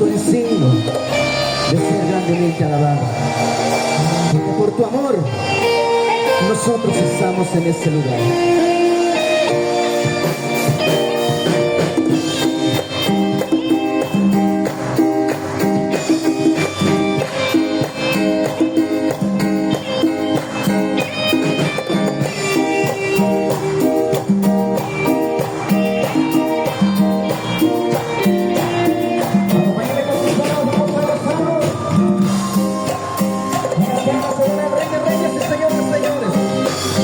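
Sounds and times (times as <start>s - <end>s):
live band playing latin music: 0.0s - 37.0s.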